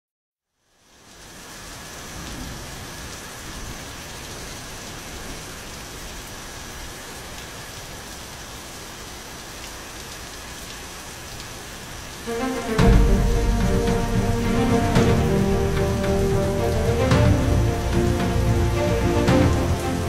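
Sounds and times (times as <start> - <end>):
steady rain falling: 0.5 - 20.0.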